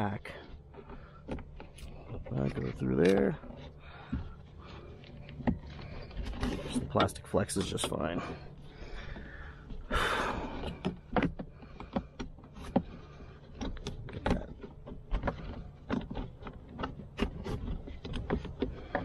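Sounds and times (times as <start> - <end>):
scraping rustle: 0.0 - 19.0.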